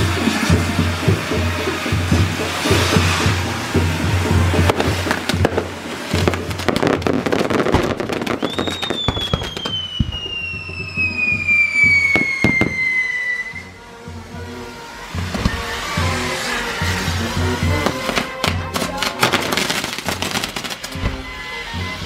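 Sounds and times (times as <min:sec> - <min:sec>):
falling firework whistle: 0:00.0 - 0:22.0
fireworks crackling and banging: 0:00.0 - 0:22.0.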